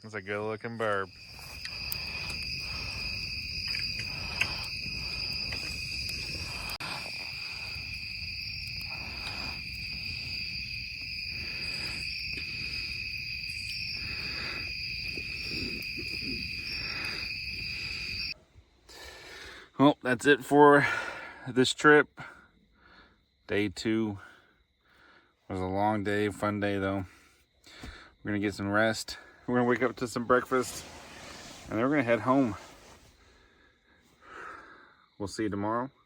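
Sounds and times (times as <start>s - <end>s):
insects trilling: 0.0s - 19.7s, 20.6s - 36.0s.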